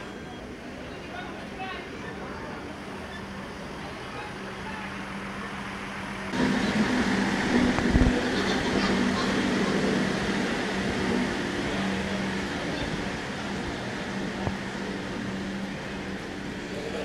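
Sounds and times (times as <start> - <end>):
diesel railcar engine humming: 0.0 - 17.0.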